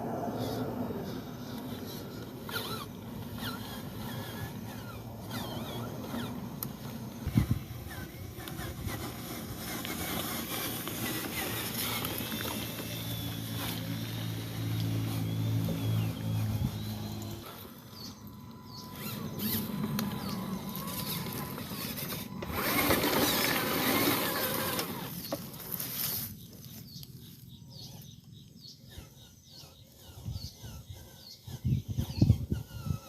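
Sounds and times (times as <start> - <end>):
birds chirping: 0.0 - 33.0
toy truck electric motor whirring: 0.1 - 33.0.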